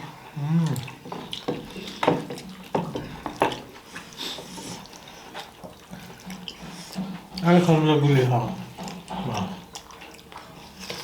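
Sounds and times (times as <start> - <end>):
wet chewing and lip smacks: 0.6 - 7.5, 8.6 - 11.0.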